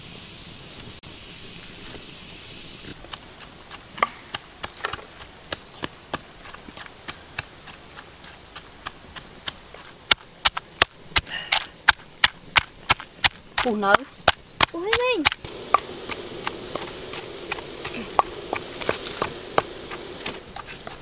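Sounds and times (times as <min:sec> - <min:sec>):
fire and wok hiss: 0:00.0 - 0:21.0
pestle pounding in wooden mortar: 0:03.1 - 0:21.0.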